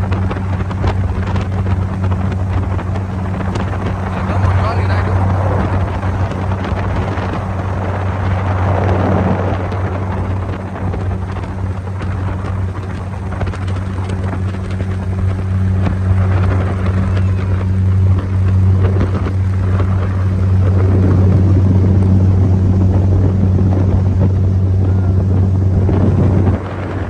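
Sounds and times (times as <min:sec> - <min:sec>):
motorboat engine humming: 0:00.0 - 0:27.0
water rushing past hull: 0:00.0 - 0:27.0
wind: 0:00.0 - 0:27.0.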